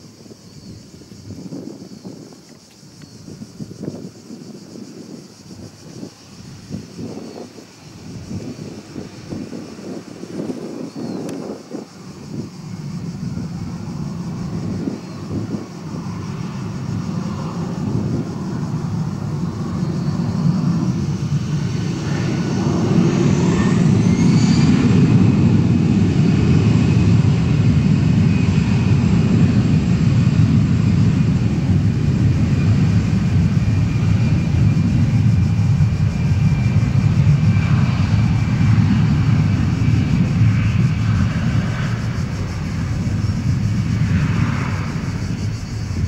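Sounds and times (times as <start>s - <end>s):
jet engines spooling up: 0.2s - 46.0s.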